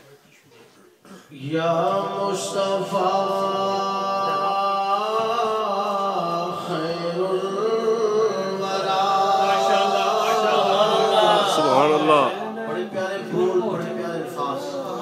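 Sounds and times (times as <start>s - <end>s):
man chanting devotional song: 1.3s - 15.0s.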